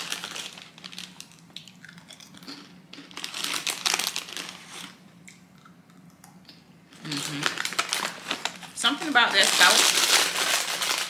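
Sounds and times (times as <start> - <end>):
snack bag crinkling: 0.0 - 5.0, 7.0 - 11.0.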